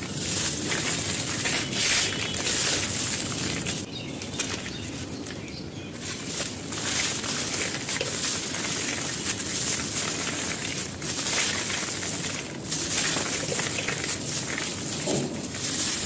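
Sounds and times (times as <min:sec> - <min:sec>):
chalky chunks crunching by hand: 0:00.0 - 0:16.0.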